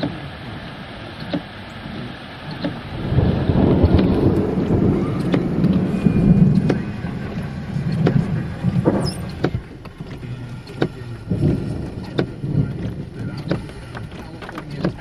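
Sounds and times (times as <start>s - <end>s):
rainstorm low rumble: 0.0s - 15.0s.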